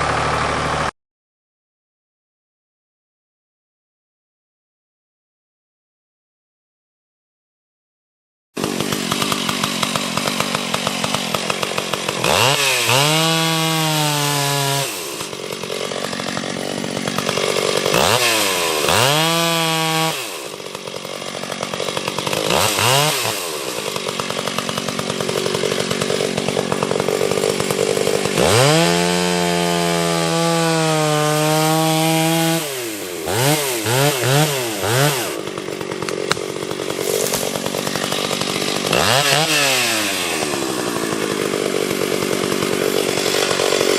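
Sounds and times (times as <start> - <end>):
chainsaw idling: 0.0 - 0.9, 8.6 - 43.9
chainsaw throttle blips: 0.0 - 0.9, 8.6 - 43.9
chainsaw cutting wood: 0.0 - 1.0, 8.6 - 43.9.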